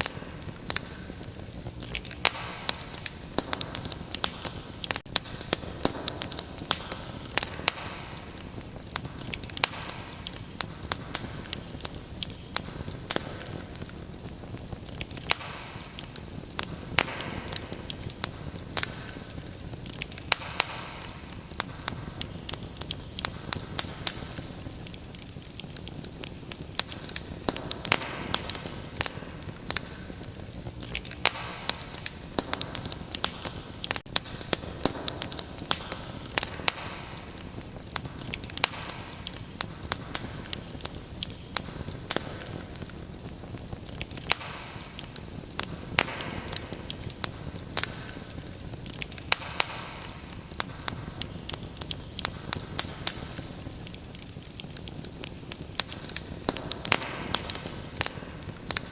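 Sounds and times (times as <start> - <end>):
fire crackling and popping: 0.0 - 58.9
low rumble of burning: 0.0 - 58.9.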